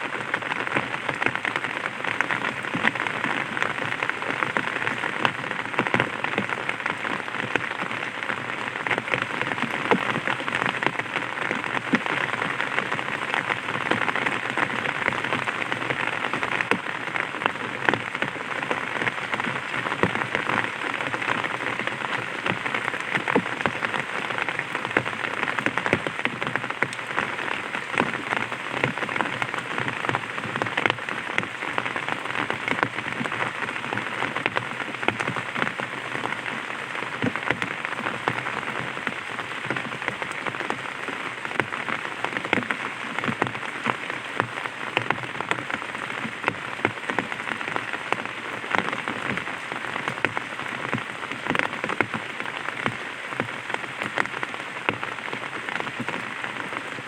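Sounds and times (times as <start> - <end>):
light rain pattering on umbrella: 0.0 - 57.0.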